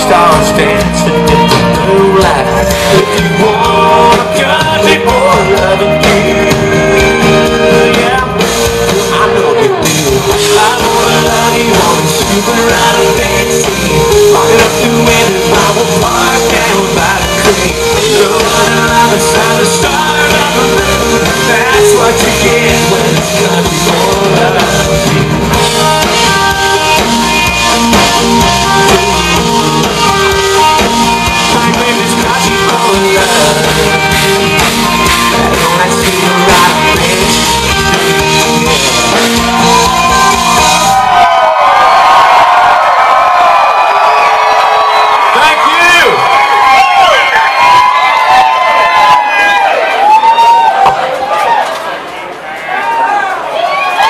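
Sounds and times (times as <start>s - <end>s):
country-rock band playing live: 0.0s - 54.0s
electric guitars: 0.0s - 54.0s.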